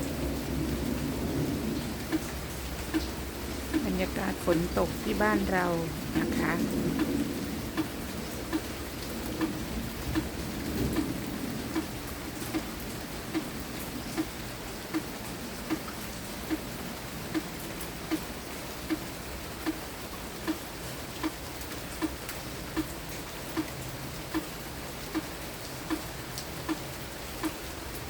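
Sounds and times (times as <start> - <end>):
light rain falling: 0.0 - 28.0.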